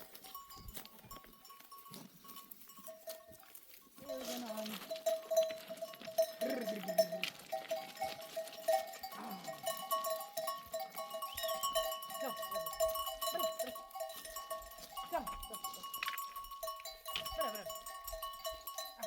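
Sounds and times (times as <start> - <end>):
animal bells ringing: 0.0 - 19.0
sheep and goats bleating: 0.0 - 19.0.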